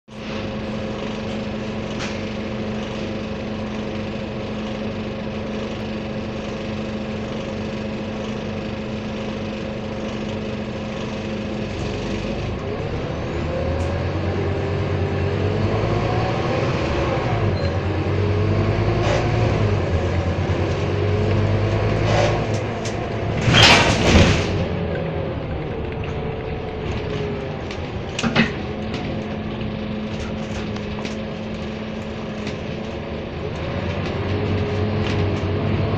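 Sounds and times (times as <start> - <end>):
bus diesel engine idling and revving: 0.0 - 35.9.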